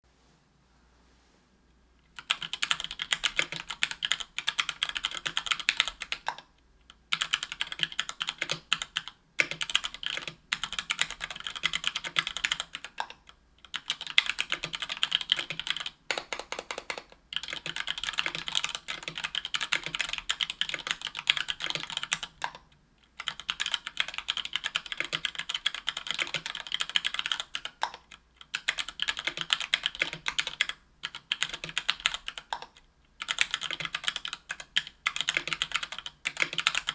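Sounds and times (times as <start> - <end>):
mechanical keyboard typing: 2.2 - 6.5, 7.1 - 36.9.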